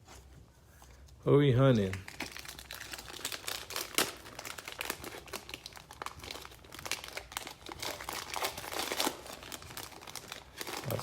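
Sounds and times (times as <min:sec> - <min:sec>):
plastic wrapper crinkling: 0:01.6 - 0:11.0.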